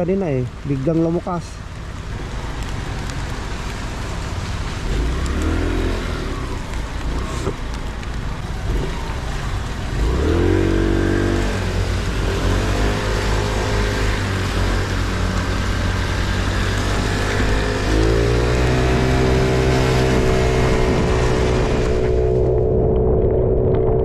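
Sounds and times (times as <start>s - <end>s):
rain and wind hiss: 0.0s - 22.7s.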